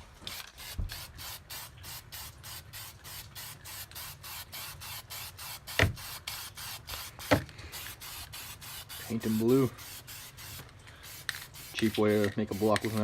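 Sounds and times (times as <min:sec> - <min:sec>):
aerosol spray can hissing: 0:00.3 - 0:13.0.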